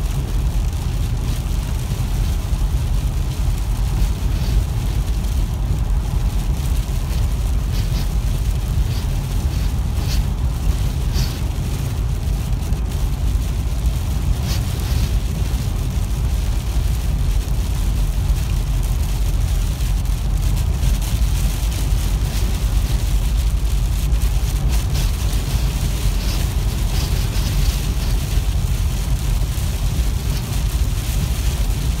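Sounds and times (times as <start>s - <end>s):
car cabin road and engine rumble: 0.0s - 32.0s
rain hissing on windshield: 0.0s - 32.0s
windshield wiper swishes: 0.0s - 32.0s.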